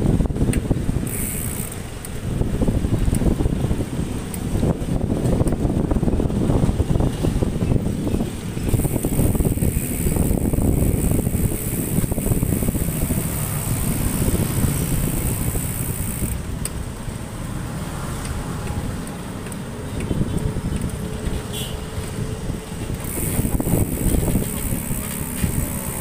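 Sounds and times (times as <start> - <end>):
wind buffeting microphone: 0.0 - 16.9, 18.7 - 26.0
road and traffic noise: 0.0 - 26.0.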